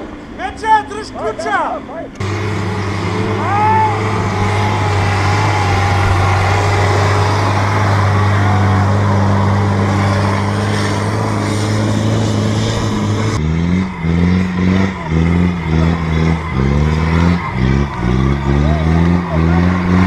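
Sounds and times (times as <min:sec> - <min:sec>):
engine running hard under load: 0:02.2 - 0:20.0.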